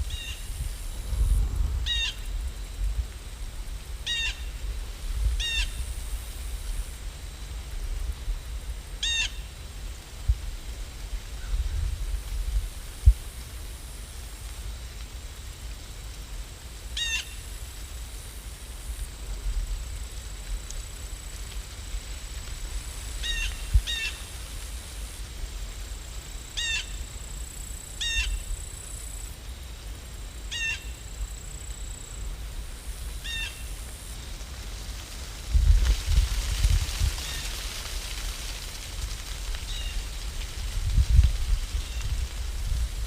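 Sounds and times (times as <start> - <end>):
rain hiss: 0.0 - 43.0.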